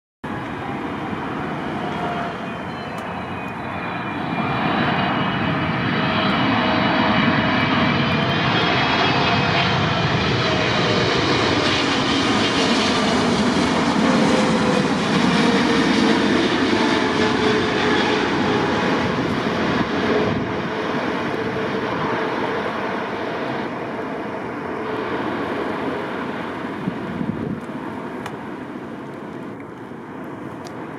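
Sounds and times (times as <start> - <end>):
jet airliner passing by: 0.2 - 30.9.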